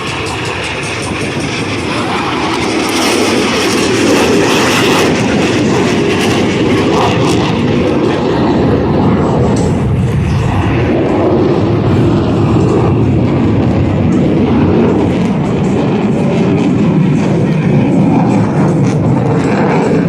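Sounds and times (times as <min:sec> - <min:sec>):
loud jet noise: 0:00.0 - 0:20.0.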